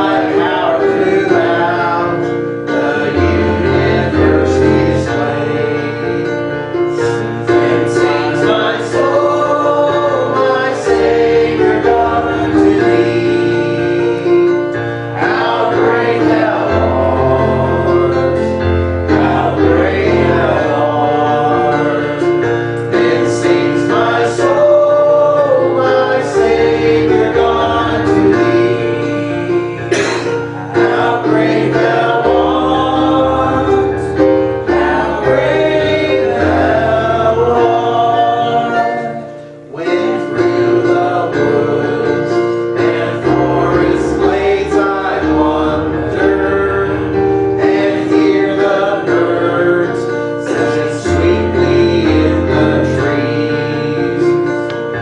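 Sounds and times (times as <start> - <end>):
congregation singing a hymn: 0.0 - 55.0
keyboard accompaniment: 0.0 - 55.0.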